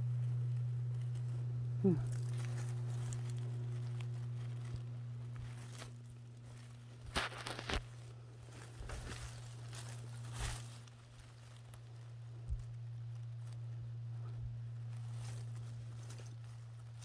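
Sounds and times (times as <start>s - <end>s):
rustling undergrowth: 0.0s - 17.0s
steady low hum: 0.0s - 17.0s
twigs snapping: 0.2s - 17.0s.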